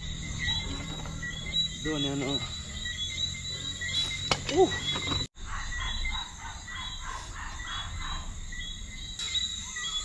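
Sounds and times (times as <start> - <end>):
high chirps of small creatures: 0.0 - 10.0
pulsed animal calls: 0.0 - 10.0.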